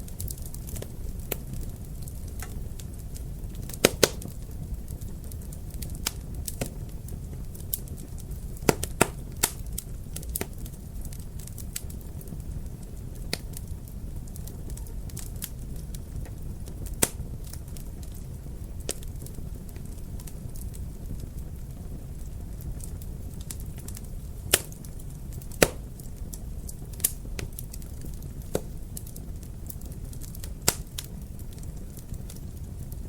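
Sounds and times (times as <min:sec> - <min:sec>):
wood fire crackling: 0:00.0 - 0:33.0
sharp fire pops: 0:00.1 - 0:13.8, 0:14.4 - 0:18.2, 0:22.6 - 0:32.9.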